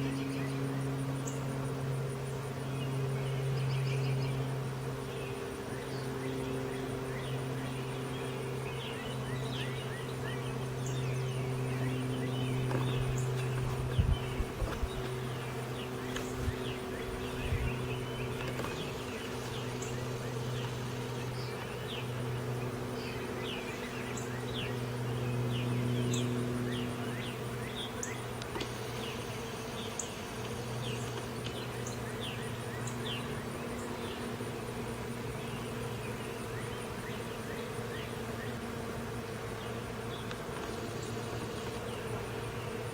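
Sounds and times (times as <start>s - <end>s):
bees buzzing: 0.0s - 42.9s
small birds chirping: 2.6s - 42.9s.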